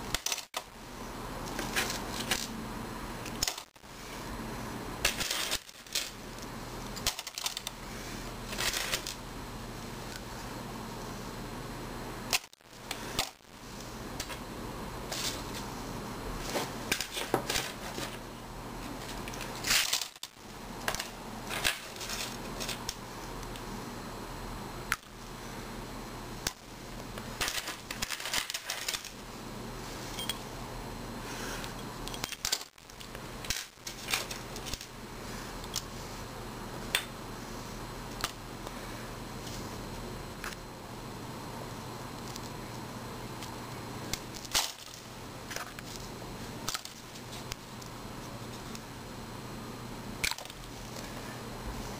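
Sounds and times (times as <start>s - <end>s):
ultrasonic cleaner humming: 0.0s - 51.9s.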